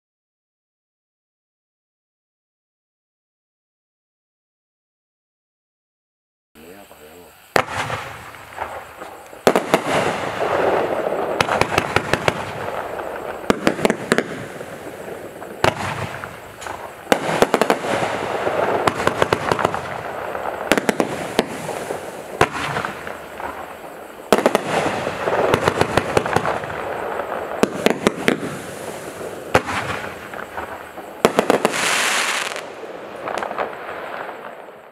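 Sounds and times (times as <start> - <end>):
fireworks crackling pops: 6.6 - 34.9
fireworks launching: 6.6 - 34.9.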